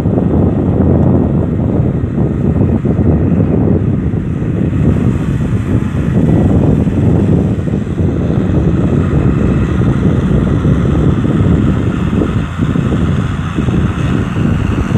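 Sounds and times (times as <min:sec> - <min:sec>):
tractor diesel engine running: 0:00.0 - 0:14.9
wind buffeting microphone: 0:00.0 - 0:14.9.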